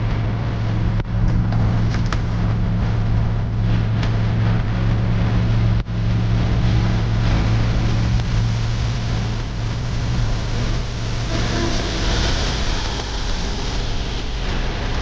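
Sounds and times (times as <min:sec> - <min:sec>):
broad rush of noise: 0:00.0 - 0:15.0
low engine hum: 0:00.0 - 0:15.0.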